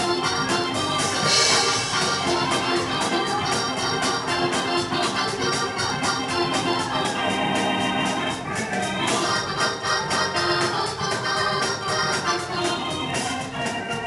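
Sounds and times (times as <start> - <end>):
held keyboard chords: 0.0 - 14.0
steady quick beat: 0.0 - 14.0.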